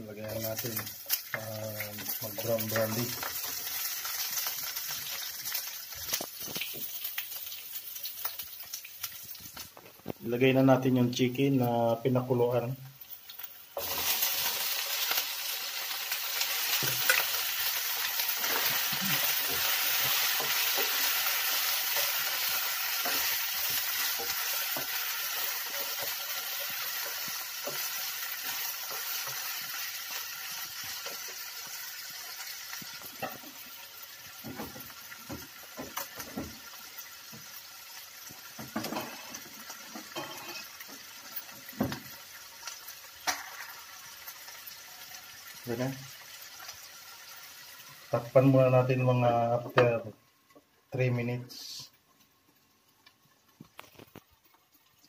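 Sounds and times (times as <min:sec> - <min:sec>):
chicken sizzling in frying pan: 0:00.0 - 0:55.0.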